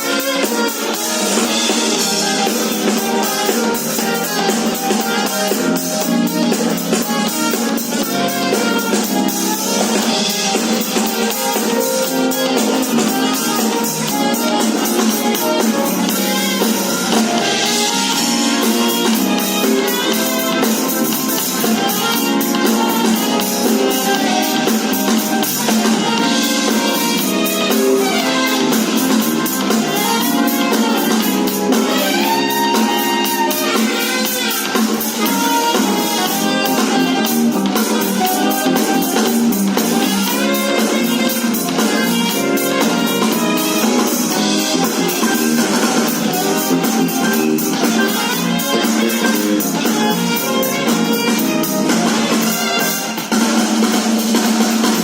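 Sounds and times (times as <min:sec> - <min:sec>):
backing track with drums and guitar: 0:00.0 - 0:55.0
saxophone playing: 0:00.0 - 0:55.0.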